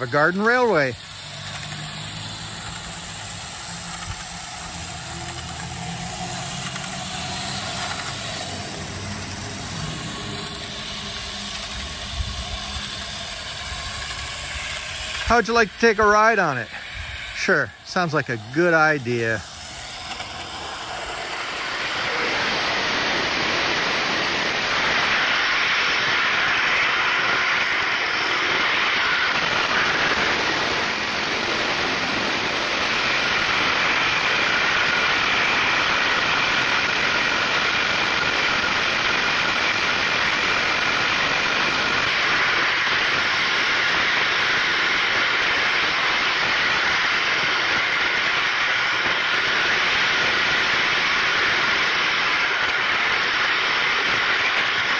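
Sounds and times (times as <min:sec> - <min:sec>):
faint motor whine: 0:00.0 - 0:54.9
model train wheels rumbling on track: 0:00.0 - 0:54.9.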